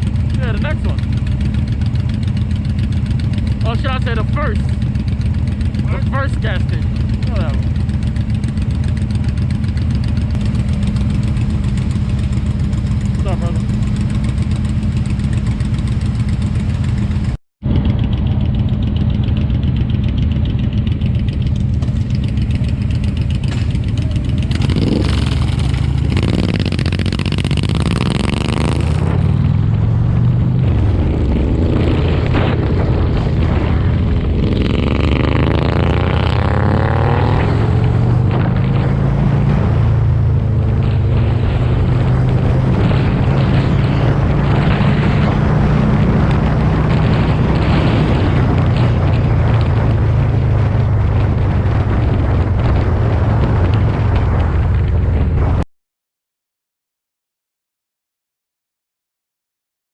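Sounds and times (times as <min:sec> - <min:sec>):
motorcycle engine accelerating: 0:00.0 - 0:55.7.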